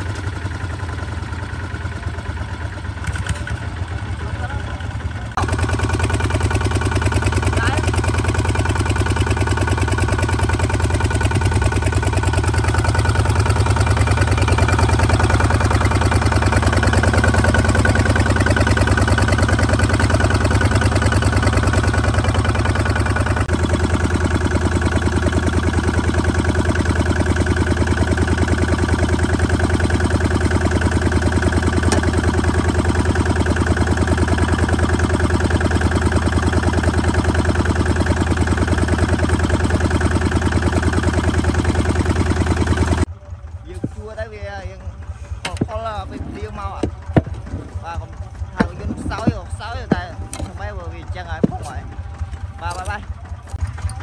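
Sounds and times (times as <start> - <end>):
walking tractor diesel engine idling: 0.0 - 54.0.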